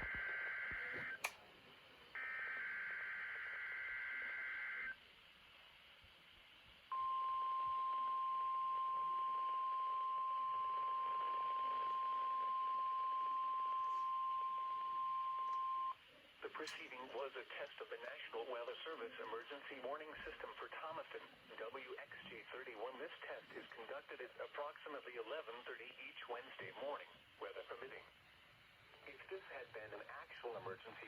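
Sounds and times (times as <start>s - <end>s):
receiver hiss: 0.0s - 31.0s.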